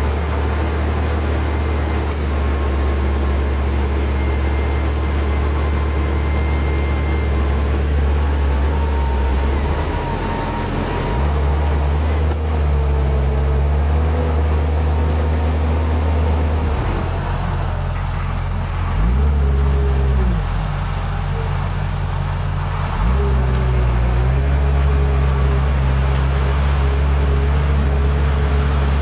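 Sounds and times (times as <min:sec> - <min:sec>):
tractor diesel engine droning: 0:00.0 - 0:29.0.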